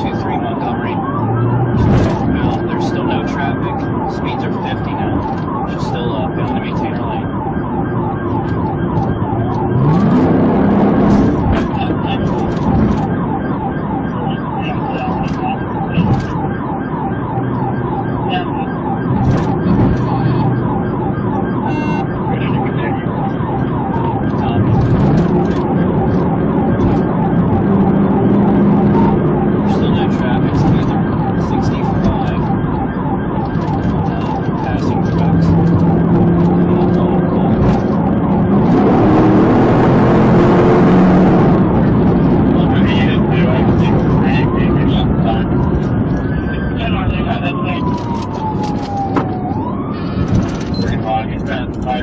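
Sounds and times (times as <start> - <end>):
police siren yelping: 0.0 - 52.0.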